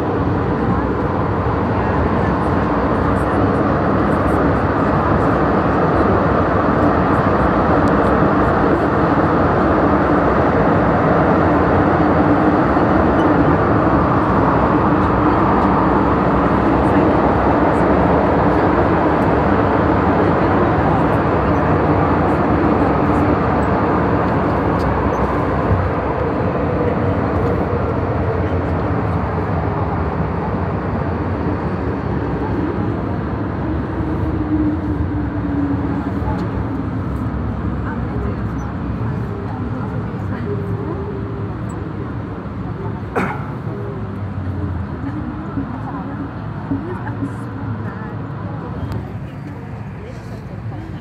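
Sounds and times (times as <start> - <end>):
wheels rumbling on rail: 0.0 - 51.0.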